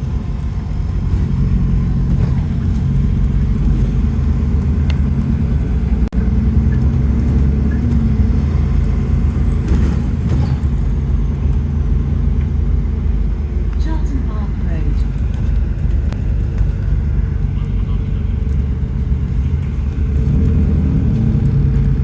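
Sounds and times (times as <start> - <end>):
bus engine droning rumble: 0.0 - 22.0.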